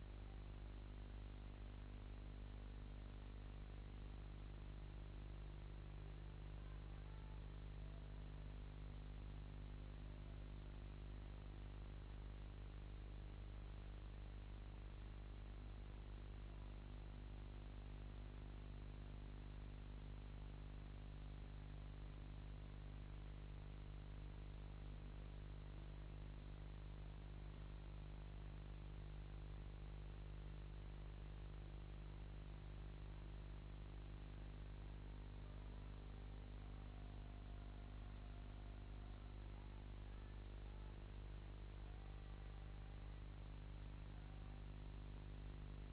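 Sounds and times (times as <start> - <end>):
faint high whine: 0.0 - 45.9
low electrical hum and hiss: 0.0 - 45.9.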